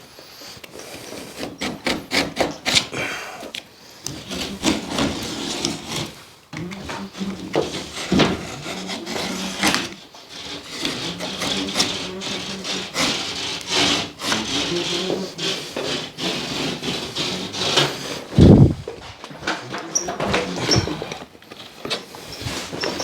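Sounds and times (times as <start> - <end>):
scraping plasterboard sheet: 0.7 - 23.0.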